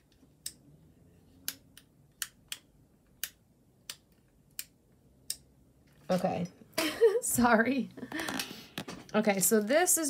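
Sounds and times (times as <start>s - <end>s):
faint room noise: 0.0s - 10.0s.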